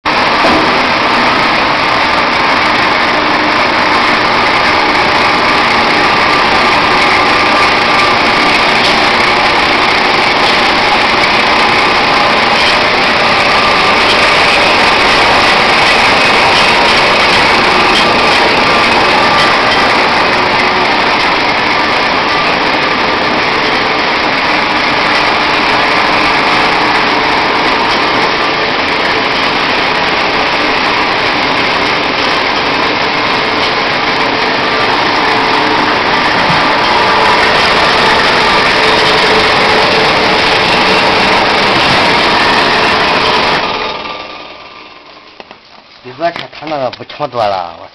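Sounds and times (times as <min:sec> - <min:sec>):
peeling machine running: 0:00.0 - 0:47.8.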